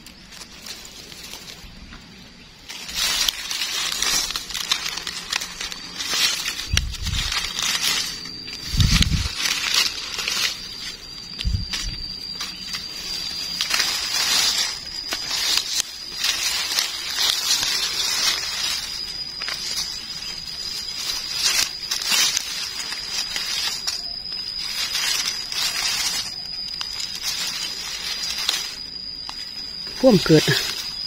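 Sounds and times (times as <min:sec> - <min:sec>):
dry leaves rustling and crunching: 0:00.0 - 0:31.0
high-pitched tone: 0:02.7 - 0:31.0.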